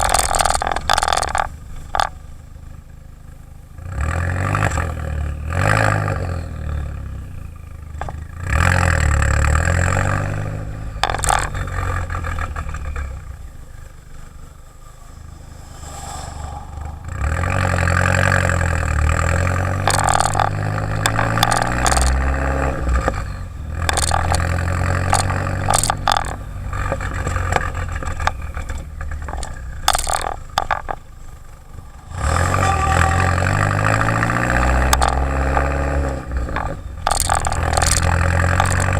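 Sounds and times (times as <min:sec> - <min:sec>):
car exhaust revving: 0:00.0 - 0:38.9
sharp exhaust cracks: 0:00.0 - 0:38.9.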